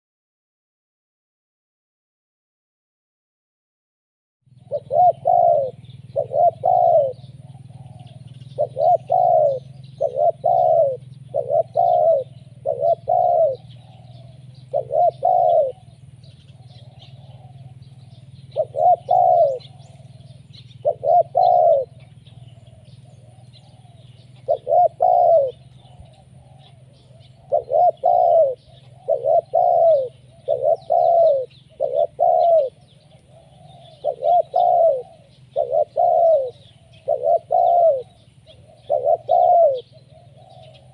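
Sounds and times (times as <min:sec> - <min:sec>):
dove cooing: 0:04.5 - 0:40.9
low steady hum: 0:04.5 - 0:40.9
small birds chirping: 0:04.5 - 0:40.9.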